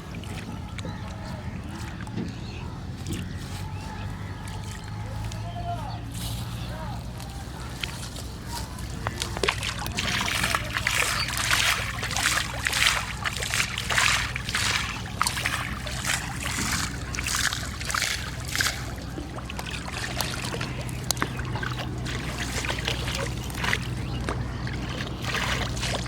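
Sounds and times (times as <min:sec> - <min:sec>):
water splashing: 0:00.0 - 0:26.0
steady low hum: 0:04.0 - 0:26.0.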